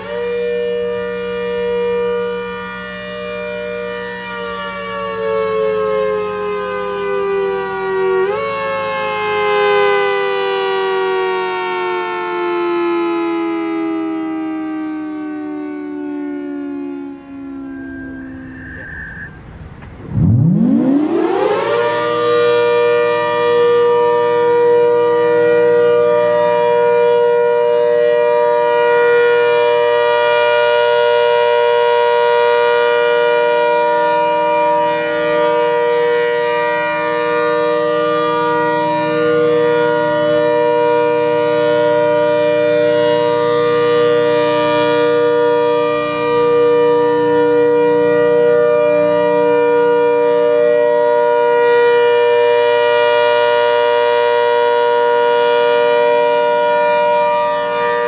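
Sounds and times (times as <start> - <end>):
outdoor warning siren winding up: 0.0 - 58.0.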